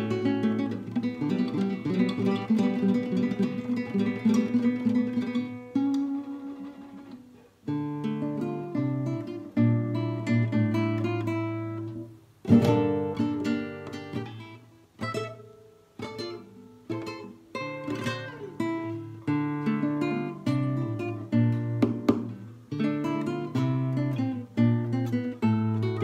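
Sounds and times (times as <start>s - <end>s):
classical guitar playing: 0.0s - 26.0s.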